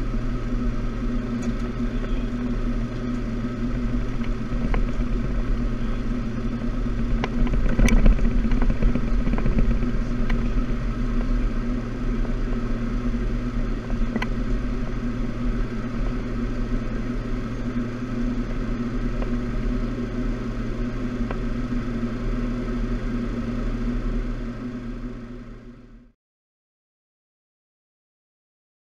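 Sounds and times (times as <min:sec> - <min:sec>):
jet cockpit engine drone: 0:00.0 - 0:26.2.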